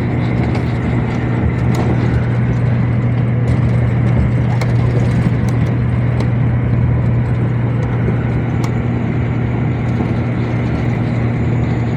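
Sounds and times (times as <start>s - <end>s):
road noise: 0.0s - 11.9s
truck engine running: 0.0s - 11.9s.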